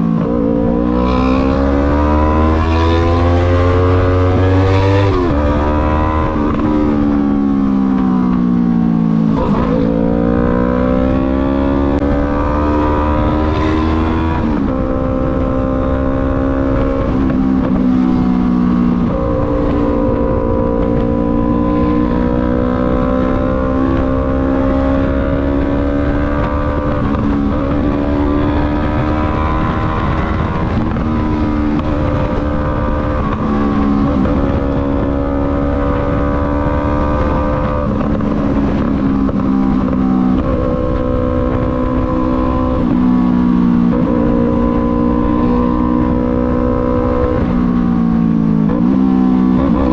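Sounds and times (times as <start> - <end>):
motorcycle engine revving: 0.0 - 49.9
wind noise: 0.0 - 49.9.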